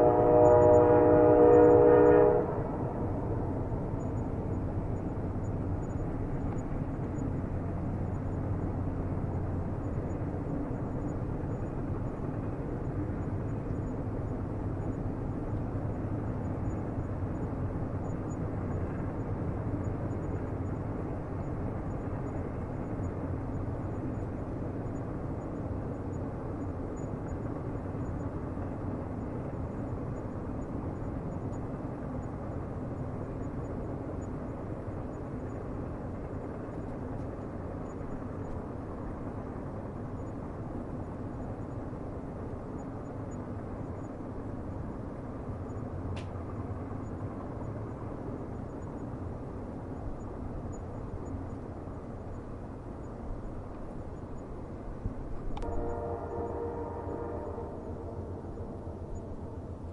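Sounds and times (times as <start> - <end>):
distant train rumbling on rails: 0.0 - 59.9.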